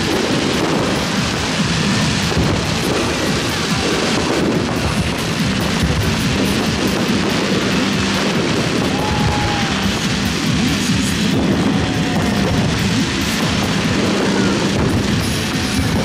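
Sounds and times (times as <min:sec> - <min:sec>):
fireworks bursting and crackling: 0:00.0 - 0:16.0
music playing: 0:00.0 - 0:16.0.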